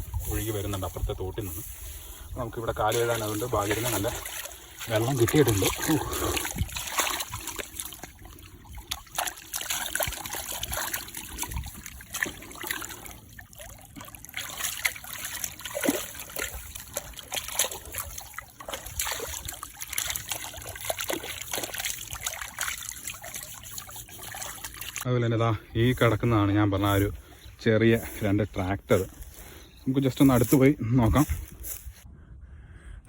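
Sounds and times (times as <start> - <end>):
water splashing and trickling: 0.0 - 31.8.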